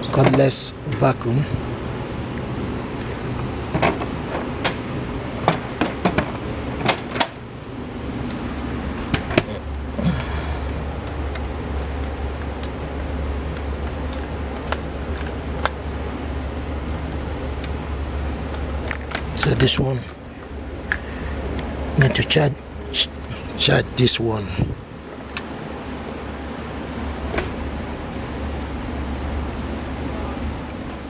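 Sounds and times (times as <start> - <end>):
vacuum low hum: 0.0 - 31.0.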